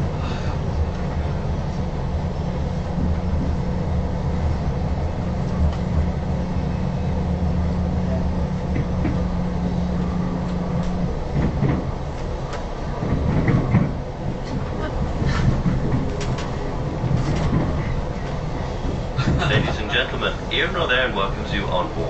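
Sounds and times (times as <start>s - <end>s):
train running inside carriage: 0.0s - 22.0s.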